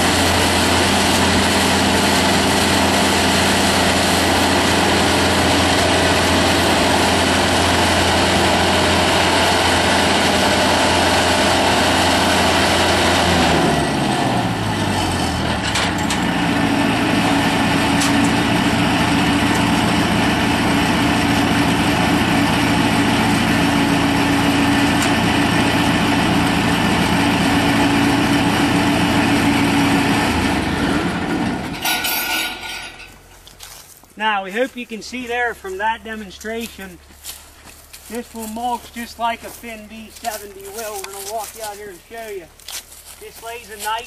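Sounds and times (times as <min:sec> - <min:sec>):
straw blower engine running: 0:00.0 - 0:44.0.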